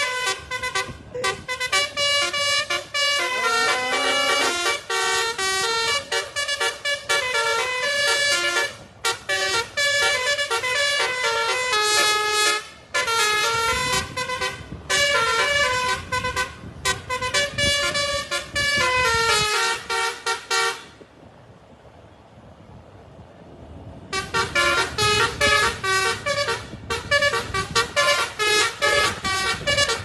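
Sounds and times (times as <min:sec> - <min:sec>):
multi-tone musical air horn tune: 0:00.0 - 0:21.0, 0:24.1 - 0:30.0.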